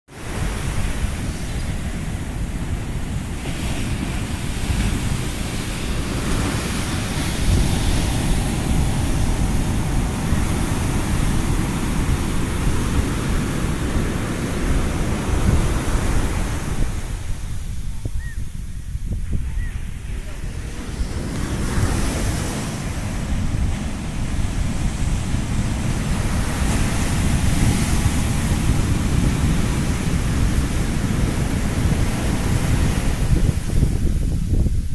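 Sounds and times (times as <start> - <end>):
ocean surf washing: 0.1 - 34.9
wind rumbling on microphone: 0.1 - 34.9.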